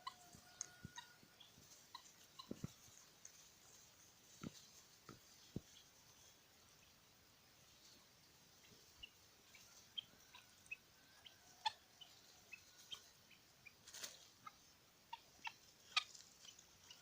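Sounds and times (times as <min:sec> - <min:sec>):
fowl peeping and clucking: 0:00.0 - 0:17.0.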